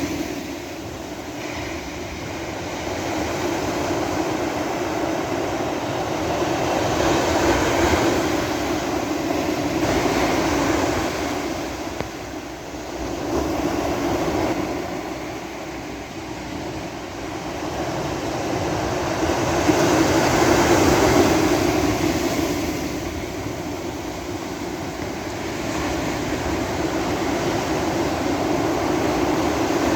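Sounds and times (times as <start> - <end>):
sea waves breaking on a beach: 0.0 - 29.9.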